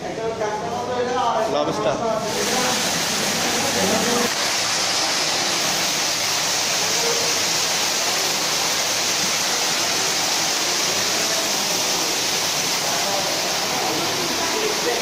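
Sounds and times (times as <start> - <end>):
waterfall splashing into pool: 2.2 - 15.0.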